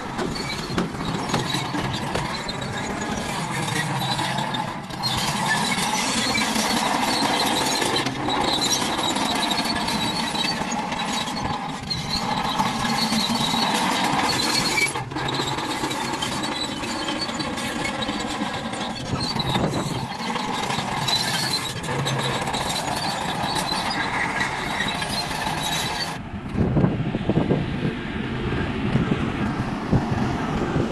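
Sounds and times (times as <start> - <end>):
toy vehicle motors whining: 0.0 - 26.2.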